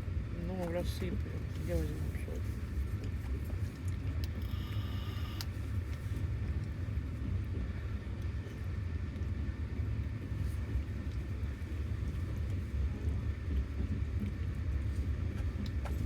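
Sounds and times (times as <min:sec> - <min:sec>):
train rumbling: 0:00.0 - 0:03.8, 0:05.6 - 0:16.0.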